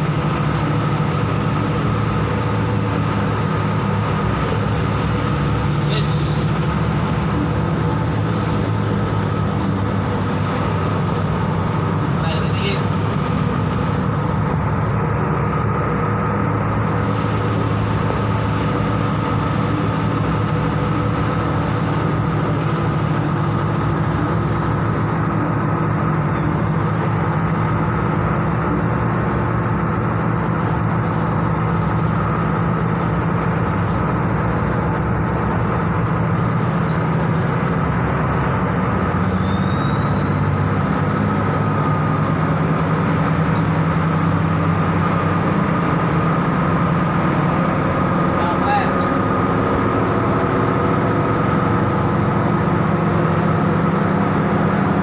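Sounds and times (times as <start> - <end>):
bus engine humming: 0.0 - 55.0.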